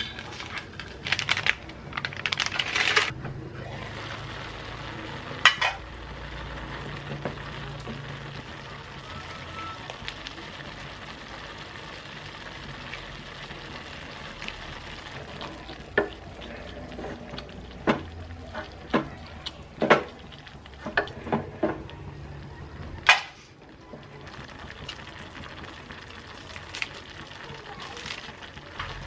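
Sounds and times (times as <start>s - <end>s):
food sizzling in a pan: 3.5s - 29.0s.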